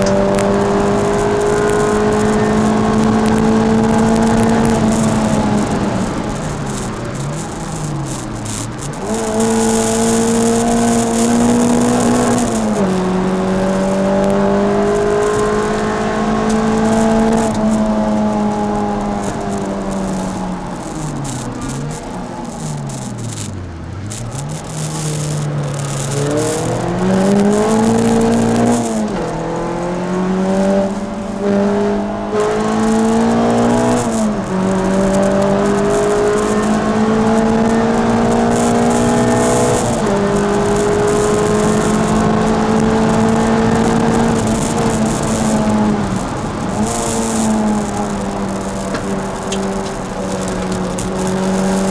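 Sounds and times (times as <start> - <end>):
car engine revving: 0.0 - 51.9
gear changes: 0.0 - 51.9.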